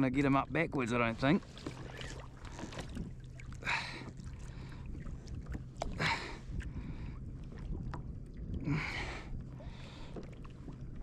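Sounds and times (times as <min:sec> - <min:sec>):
water sloshing against kayak hull: 0:00.8 - 0:11.0.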